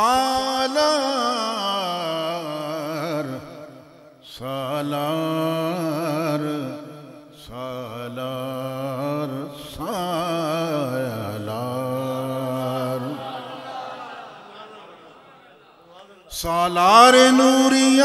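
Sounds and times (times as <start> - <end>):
man chanting unaccompanied: 0.0 - 13.5, 15.8 - 18.0.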